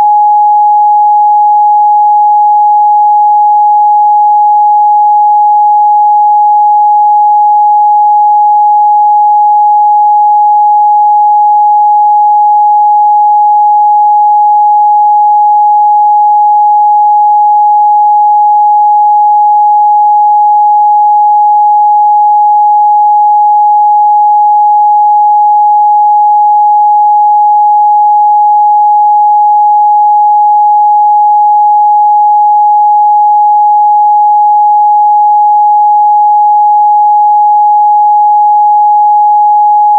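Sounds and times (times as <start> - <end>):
pure sine test tone: 0.0 - 39.9.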